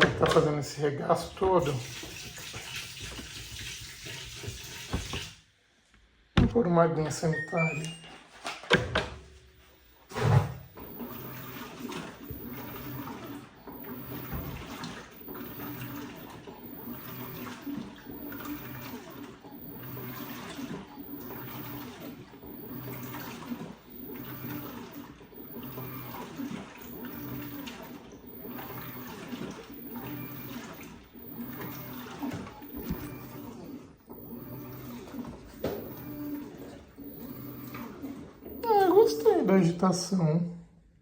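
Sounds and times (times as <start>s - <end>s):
water sloshing in washing machine: 0.0s - 5.6s, 6.3s - 40.1s
washing machine motor hum: 0.0s - 40.4s.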